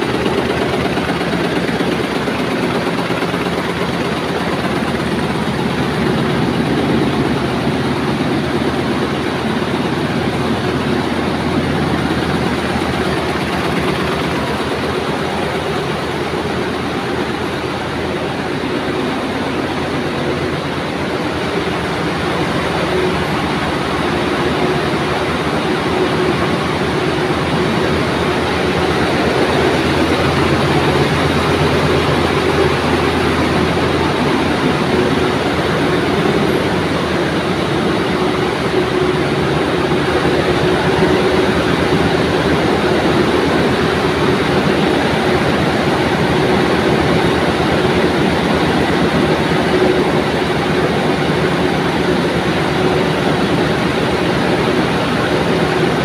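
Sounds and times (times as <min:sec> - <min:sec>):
textile machines clattering: 0:00.0 - 0:56.0.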